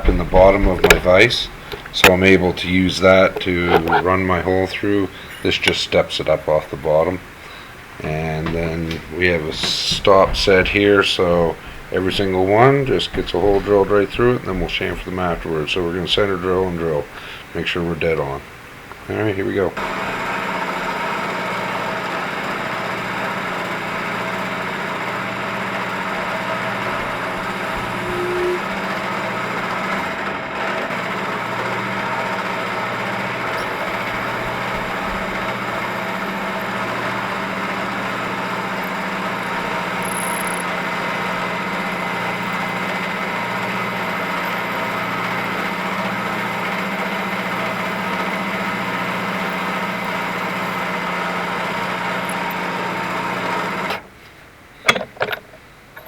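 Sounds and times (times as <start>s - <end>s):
drilling machine humming and whining: 0.0s - 5.8s, 7.2s - 17.5s, 19.8s - 54.1s.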